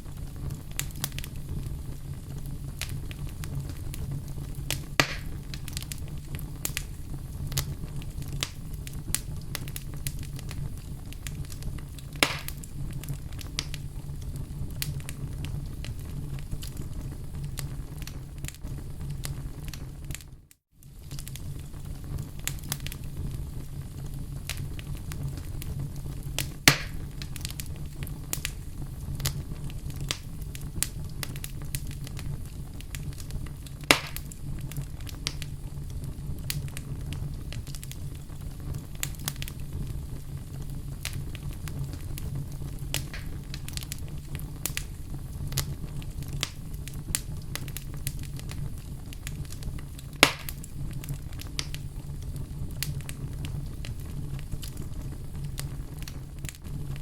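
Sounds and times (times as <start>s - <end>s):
fireplace fire crackling: 0.0s - 57.0s
loud fire pops: 0.0s - 57.0s.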